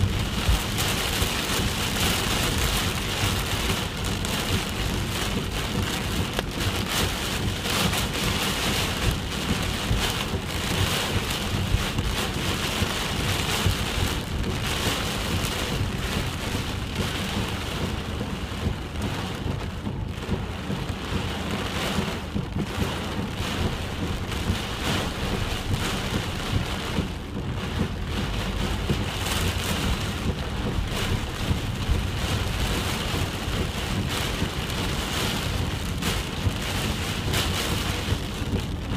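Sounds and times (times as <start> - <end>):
heavy rain falling: 0.0 - 38.9
low rumble: 0.0 - 38.9
raindrops striking a surface: 0.0 - 38.9.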